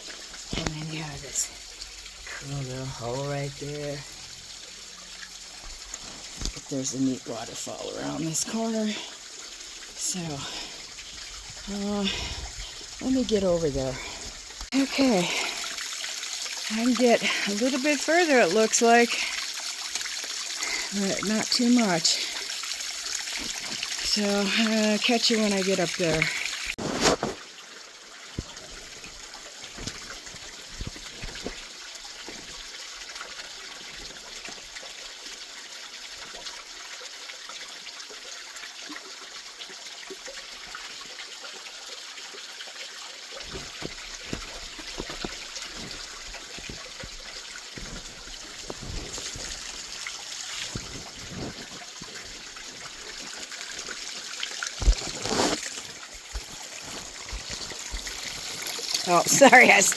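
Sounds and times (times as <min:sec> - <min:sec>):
waterfall trickling and splashing: 0:00.0 - 0:59.9.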